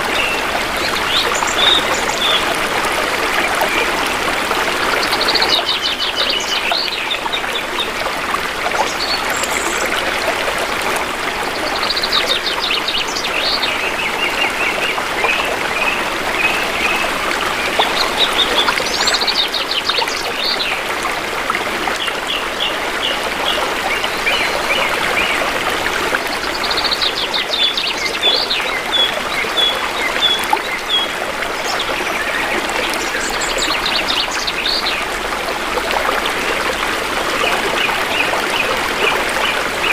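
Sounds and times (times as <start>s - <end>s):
shallow river trickling: 0.0s - 39.9s.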